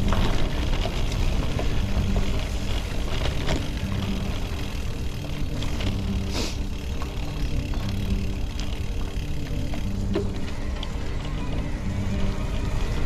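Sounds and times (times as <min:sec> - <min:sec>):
bike tyres and frame rattling: 0:00.0 - 0:13.0.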